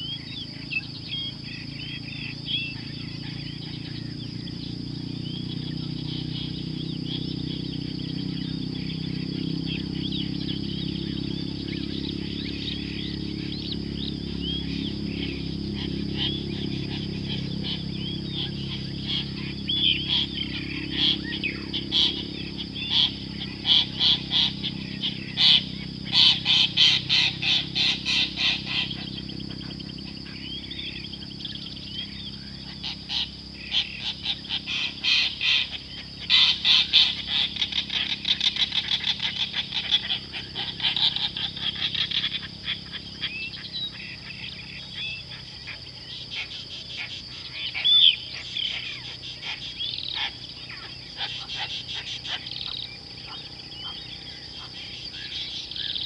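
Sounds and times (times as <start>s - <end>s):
bird loud repeated calls: 0.0s - 56.0s
steady high hum: 0.0s - 56.0s
wild birds calling: 0.0s - 56.0s.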